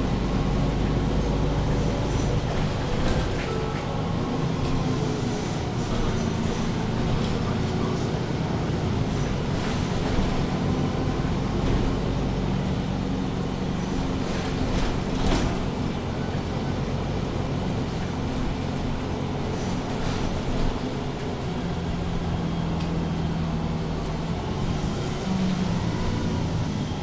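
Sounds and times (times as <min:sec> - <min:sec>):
bus diesel engine idling: 0:00.0 - 0:27.0.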